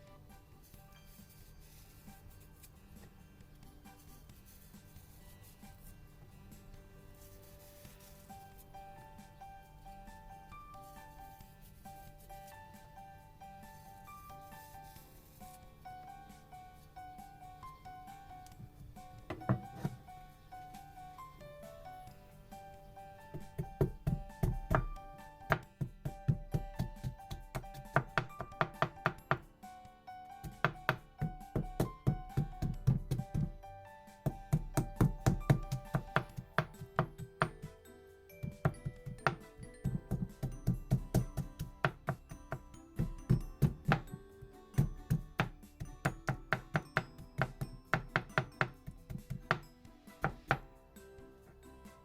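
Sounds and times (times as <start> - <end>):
music with held notes: 0.0 - 52.0.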